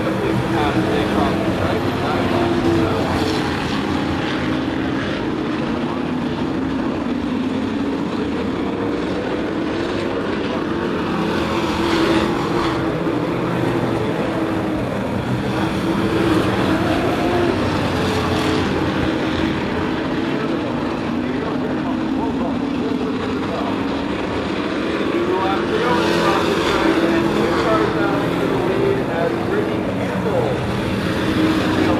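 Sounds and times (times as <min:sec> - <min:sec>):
racing truck engines: 0:00.0 - 0:31.9.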